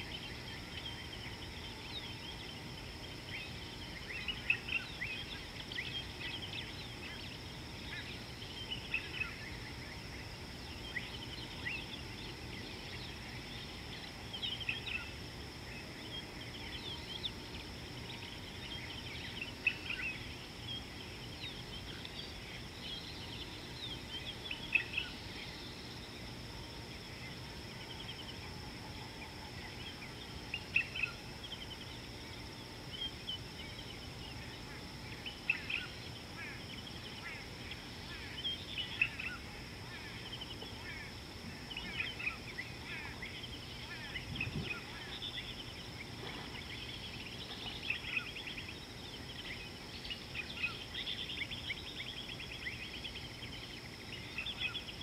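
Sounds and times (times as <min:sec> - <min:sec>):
low background hiss: 0:00.0 - 0:55.0
wild birds chirping: 0:00.0 - 0:55.0.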